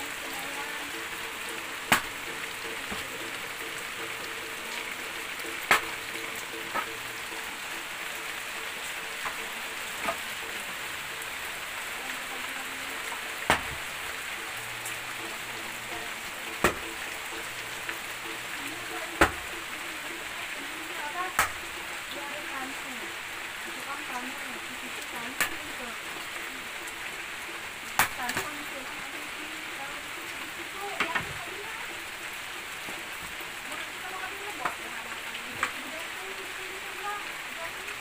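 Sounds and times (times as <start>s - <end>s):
rain falling on leaves: 0.0s - 38.0s.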